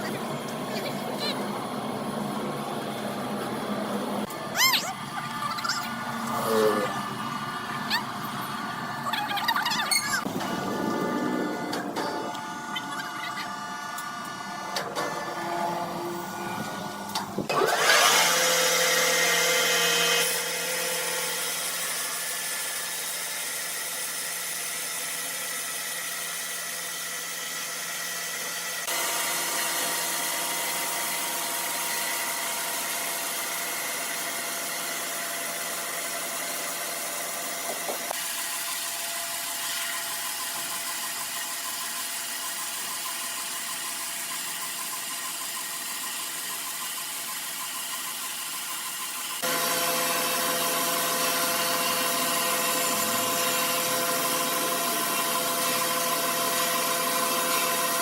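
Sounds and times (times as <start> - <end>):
saw cutting wood: 4.2 - 58.0.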